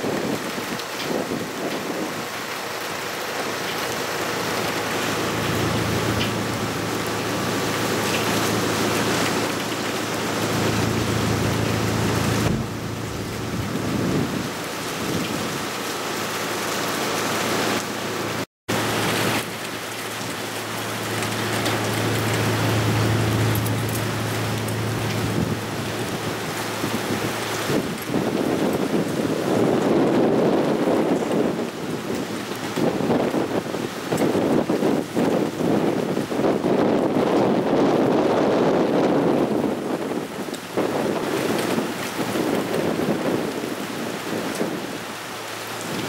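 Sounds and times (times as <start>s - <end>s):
gusting wind: 0.0s - 46.0s
heavy rain on asphalt: 0.0s - 46.0s.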